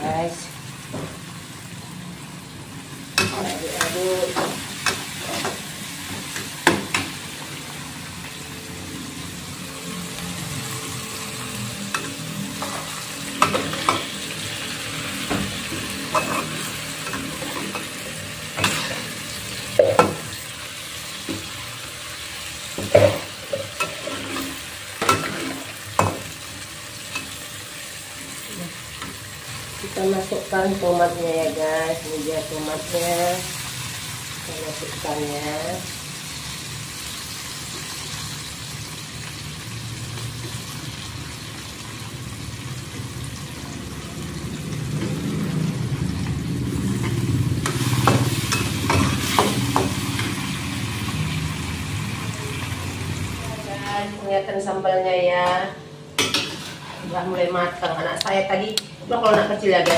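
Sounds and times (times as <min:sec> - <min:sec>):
sambal sizzling in a wok: 0:00.0 - 0:59.9.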